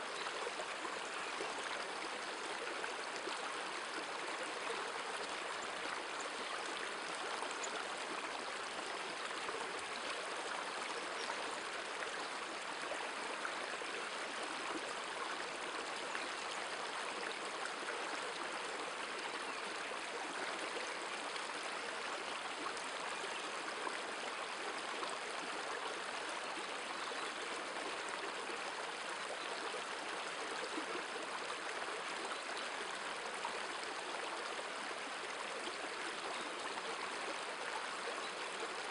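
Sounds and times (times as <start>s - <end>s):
river water running over rapids: 0.0s - 38.9s.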